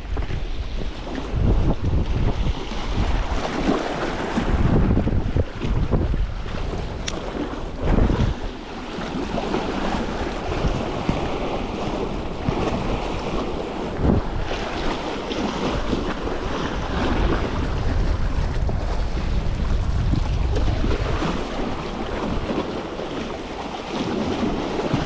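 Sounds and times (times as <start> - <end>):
sea waves: 0.0 - 25.0
wind buffeting microphone: 0.0 - 25.0.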